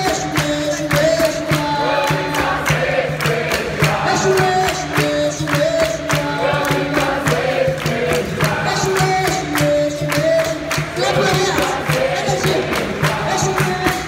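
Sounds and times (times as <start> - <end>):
group singing chorus: 0.0 - 14.0
hand drum rhythm: 0.0 - 14.0
hand-clapping: 0.0 - 14.0.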